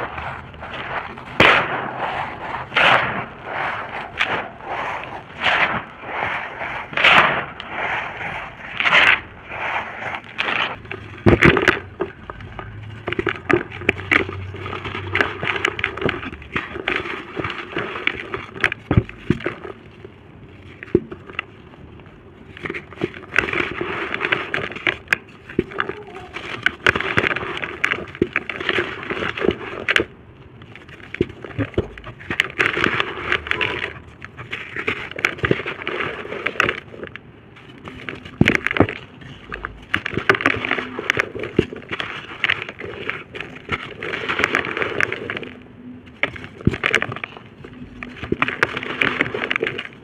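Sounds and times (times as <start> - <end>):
dry dirt crunching and crumbling: 0.0 - 50.0.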